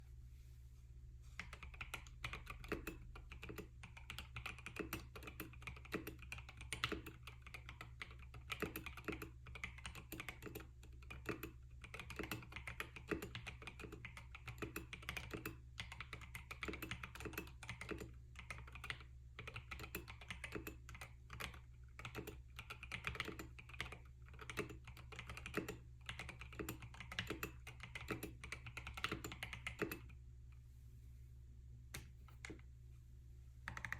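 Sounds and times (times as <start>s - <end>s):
typing on a mechanical keyboard: 1.4s - 30.2s, 33.7s - 33.9s.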